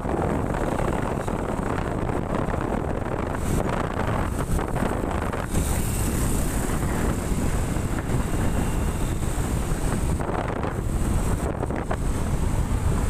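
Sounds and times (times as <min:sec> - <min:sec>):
traffic engine and tyre noise: 0:00.0 - 0:13.0
wind rumble on microphone: 0:00.0 - 0:13.0.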